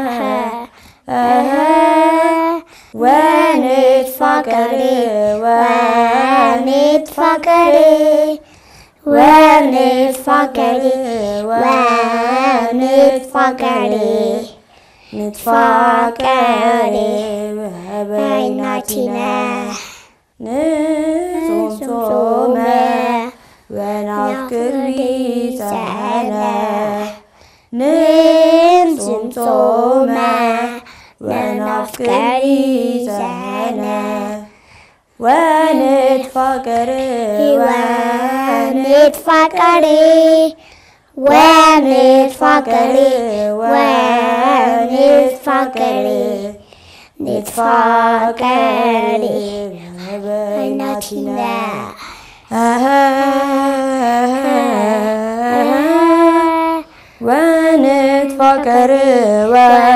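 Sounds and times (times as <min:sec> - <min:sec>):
children singing a hymn: 0:00.0 - 0:08.4, 0:09.0 - 0:14.6, 0:15.2 - 0:19.8, 0:20.4 - 0:27.2, 0:27.8 - 0:34.5, 0:35.2 - 0:40.6, 0:41.2 - 0:46.6, 0:47.2 - 0:59.9.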